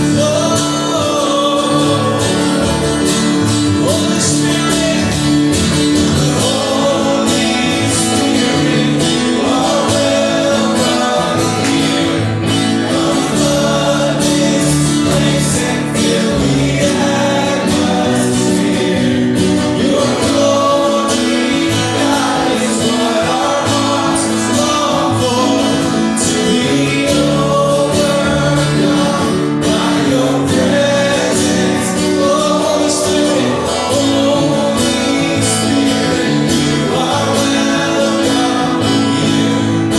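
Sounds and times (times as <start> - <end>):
guitar accompaniment: 0.0 - 39.9
person singing gospel song: 0.0 - 39.9.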